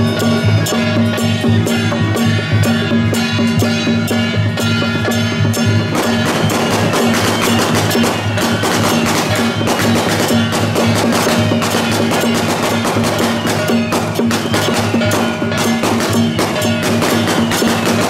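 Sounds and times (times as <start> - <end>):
fast percussion strikes: 0.0 - 18.0.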